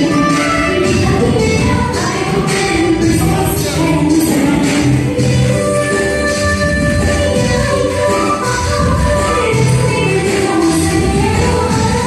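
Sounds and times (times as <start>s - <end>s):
loud instrumental dance music: 0.0s - 12.0s.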